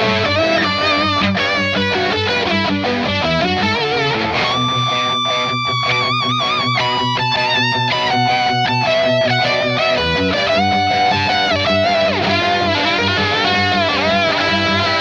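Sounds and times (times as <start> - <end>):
electric guitar lead melody with vibrato: 0.0 - 15.0.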